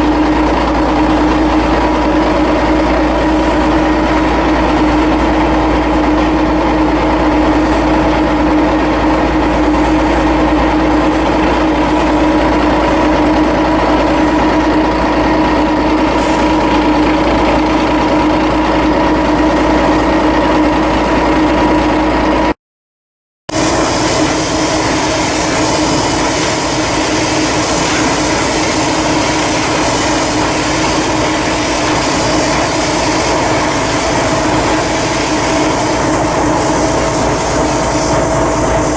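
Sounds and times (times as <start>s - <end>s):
different machine noise: 0.0s - 22.5s, 23.5s - 38.9s
machinery humming: 0.0s - 22.5s, 23.5s - 38.9s.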